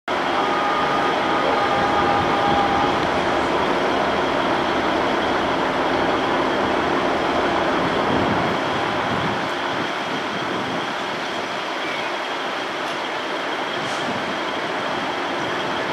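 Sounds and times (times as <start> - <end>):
diesel locomotive engine running: 0.1 - 15.9.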